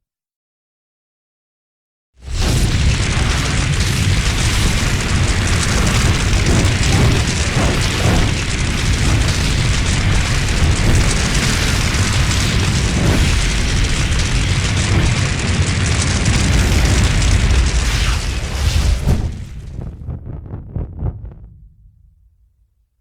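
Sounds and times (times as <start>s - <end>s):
dragon rumbling roar: 2.3s - 21.5s.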